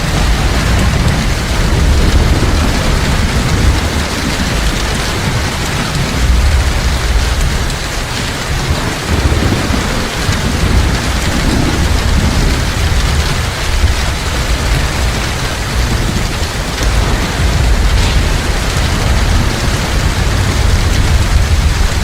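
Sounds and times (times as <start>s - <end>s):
heavy rain pouring: 0.0s - 22.0s
low thunder rumble: 0.0s - 22.0s.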